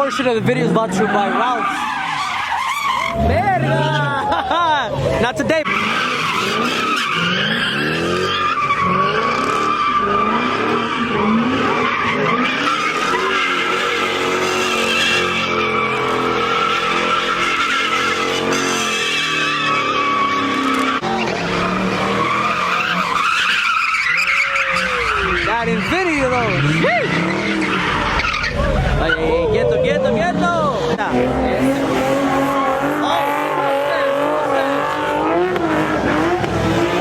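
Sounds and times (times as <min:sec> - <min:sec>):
car engine revving: 0:00.0 - 0:37.0
car tyres squealing: 0:00.0 - 0:37.0.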